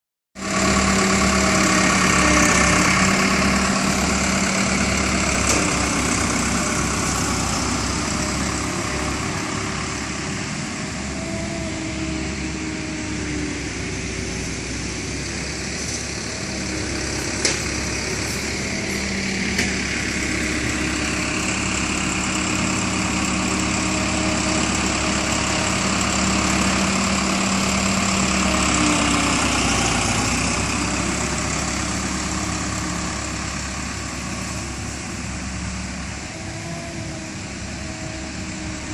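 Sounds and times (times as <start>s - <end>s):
diesel paving machinery running: 0.4s - 38.9s.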